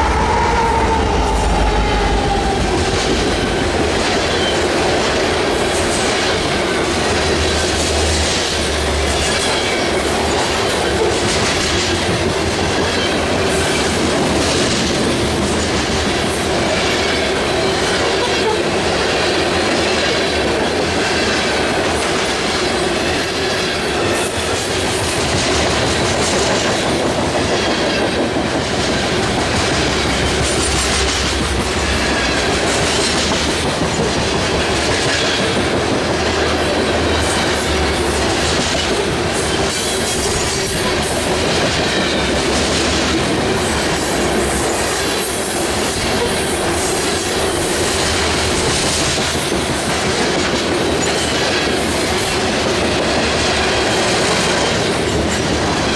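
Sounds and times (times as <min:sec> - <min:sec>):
freight train wheels clicking: 0:00.0 - 0:55.9.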